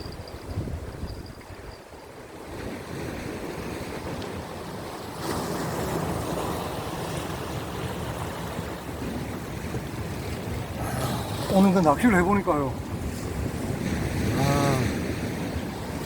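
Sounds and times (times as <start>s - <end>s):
wind buffeting microphone: 0.0s - 5.0s, 5.8s - 16.0s
sea waves breaking on rocks: 2.2s - 16.0s.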